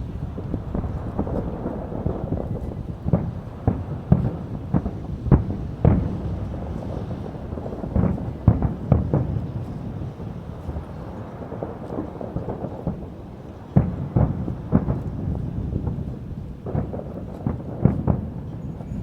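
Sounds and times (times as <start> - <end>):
fireworks booming: 0.0 - 19.0
low rumble of fireworks bursts: 0.0 - 19.0.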